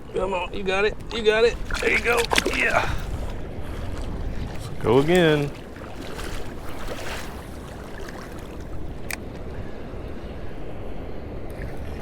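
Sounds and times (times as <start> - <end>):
river water: 0.0 - 12.0
wind noise on microphone: 0.0 - 12.0.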